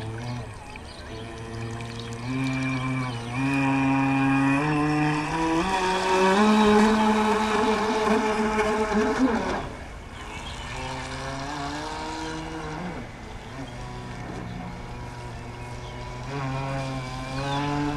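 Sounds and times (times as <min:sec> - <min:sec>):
electric boat motors whining: 0:00.0 - 0:17.9.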